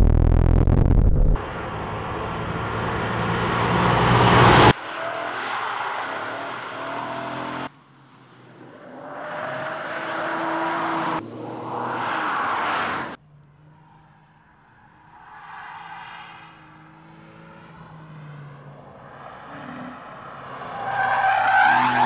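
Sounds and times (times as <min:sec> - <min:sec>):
car approaching: 0:00.0 - 0:22.0
sports car engines at speed: 0:00.0 - 0:22.0.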